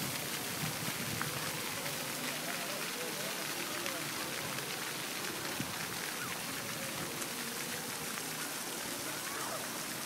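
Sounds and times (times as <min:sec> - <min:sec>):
city ambience hiss: 0:00.0 - 0:10.0.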